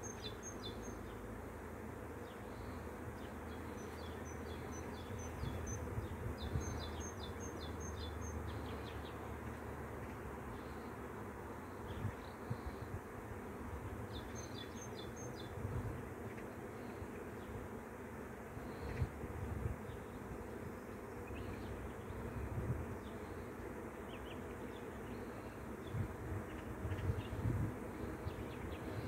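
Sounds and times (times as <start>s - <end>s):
bees humming: 0.0s - 29.0s.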